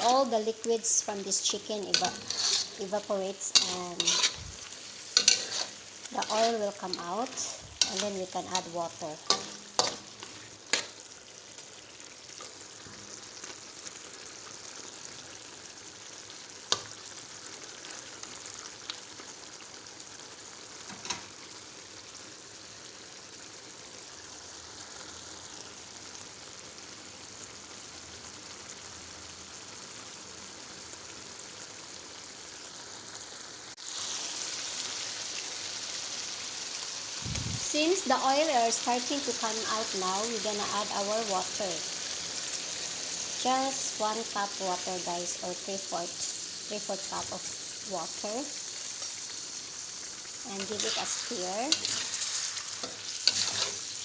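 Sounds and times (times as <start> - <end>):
meat sizzling in a pan: 0.0 - 54.0.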